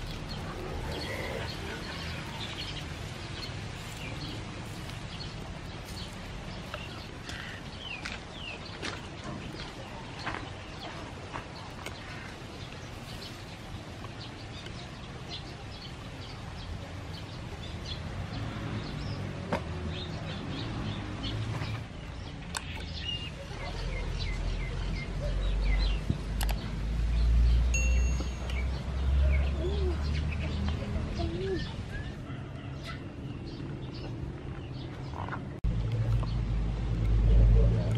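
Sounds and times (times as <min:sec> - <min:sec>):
small birds chirping: 0:00.0 - 0:36.5.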